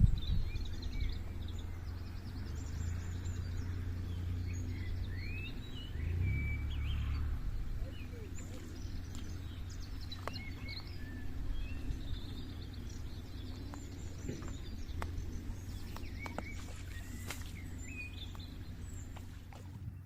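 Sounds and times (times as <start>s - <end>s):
songbirds chirping and trilling: 0.0s - 20.0s
steady low rumble: 0.0s - 20.0s.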